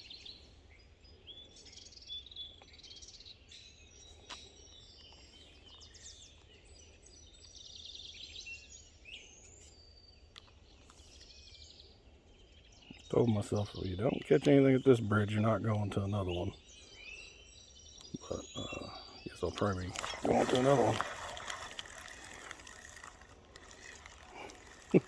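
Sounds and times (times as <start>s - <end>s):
birds chirping and trilling: 0.0s - 25.0s.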